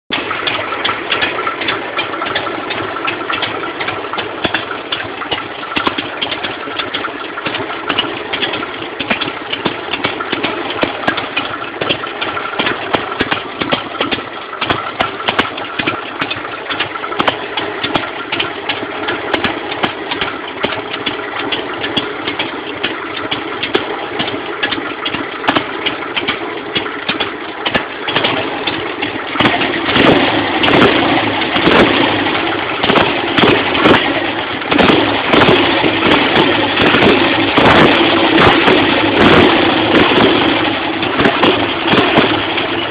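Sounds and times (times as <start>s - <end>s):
fast ticking: 0.1s - 42.9s
motorcycle engine idling: 0.1s - 42.9s.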